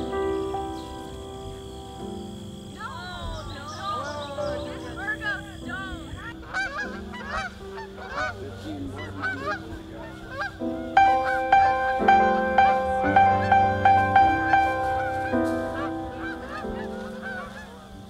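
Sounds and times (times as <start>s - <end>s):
geese honking in flight: 0.0s - 18.0s
soft background music: 0.0s - 18.0s.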